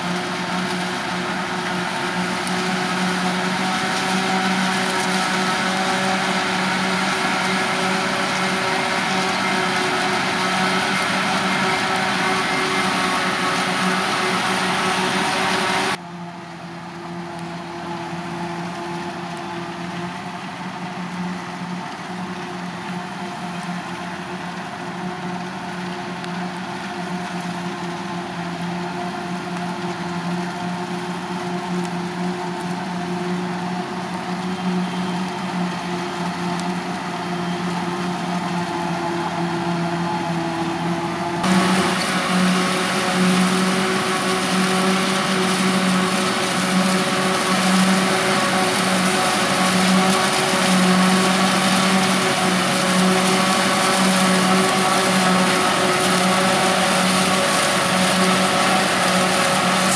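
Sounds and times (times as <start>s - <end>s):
forage harvester chopping maize: 0.0s - 16.0s, 25.1s - 59.9s
tractors hauling trailers: 0.0s - 59.9s.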